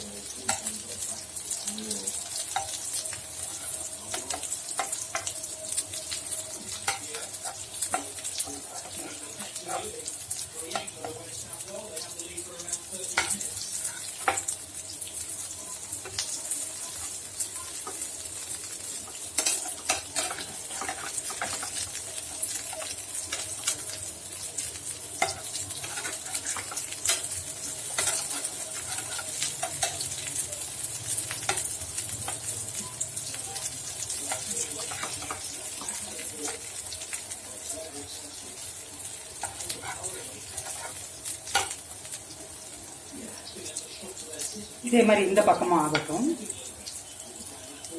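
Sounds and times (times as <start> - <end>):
oil crackling and popping: 0.0 - 47.9
patties sizzling in hot oil: 0.0 - 47.9.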